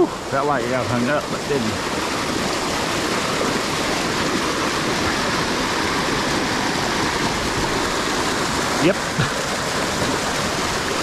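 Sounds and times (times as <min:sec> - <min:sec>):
creek water rushing over rocks: 0:00.0 - 0:11.0.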